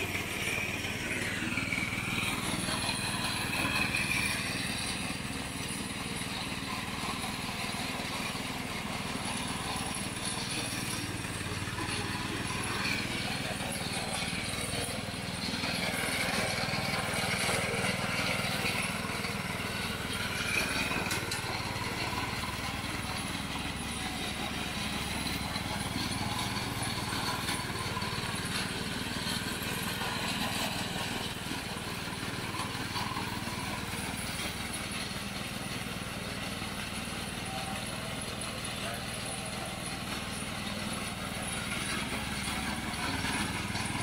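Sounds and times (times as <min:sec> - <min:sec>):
lawnmower engine running: 0:00.0 - 0:44.0.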